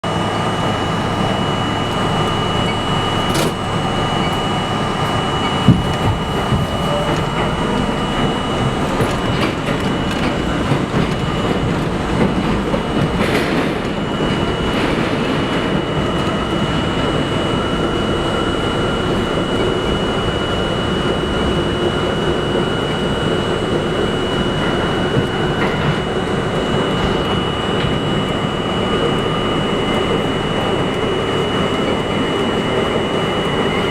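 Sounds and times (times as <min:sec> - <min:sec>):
subway train rumbling on rails: 0:00.0 - 0:33.9.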